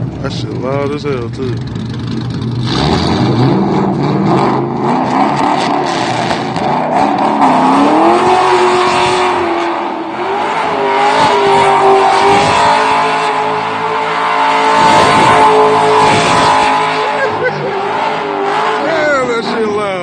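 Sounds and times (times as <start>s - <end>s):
car engine revving loudly: 0.5s - 19.8s.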